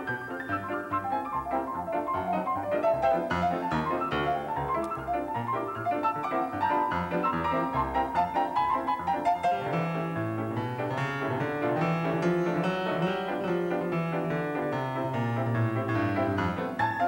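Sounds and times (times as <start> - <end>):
piano music with quick runs: 0.0 - 17.0.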